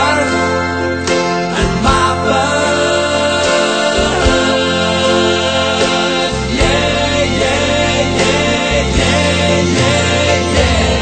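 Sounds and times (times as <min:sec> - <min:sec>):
song with sung vocals: 0:00.0 - 0:11.0.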